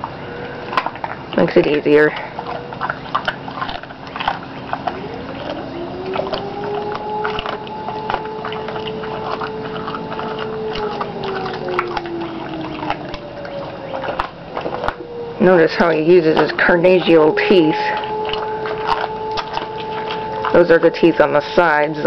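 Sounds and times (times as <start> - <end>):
dog chewing and crunching meat: 0.0 - 22.0
steady mechanical hum: 0.0 - 22.0.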